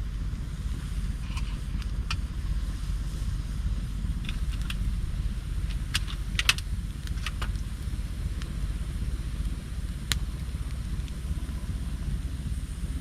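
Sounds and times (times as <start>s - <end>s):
campfire crackling: 0.0s - 13.0s
low rumble: 0.0s - 13.0s.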